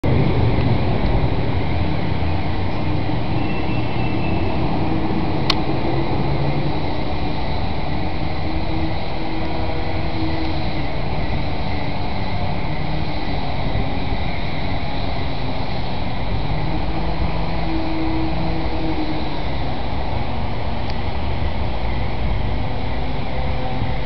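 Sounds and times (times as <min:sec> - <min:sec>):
low city rumble: 0:00.0 - 0:24.0.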